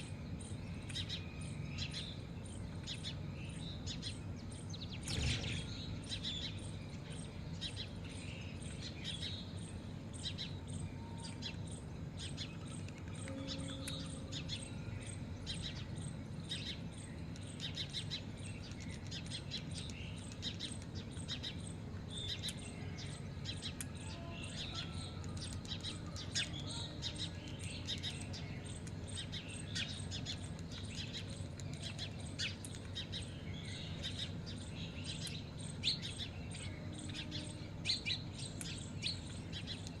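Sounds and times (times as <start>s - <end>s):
birds chirping: 0.0s - 40.0s
steady low hum: 0.0s - 40.0s.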